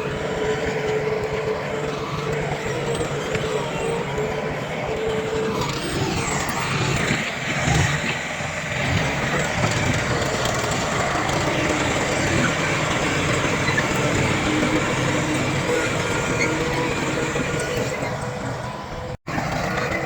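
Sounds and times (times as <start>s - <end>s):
earthmoving machinery diesel engines: 0.0s - 20.0s.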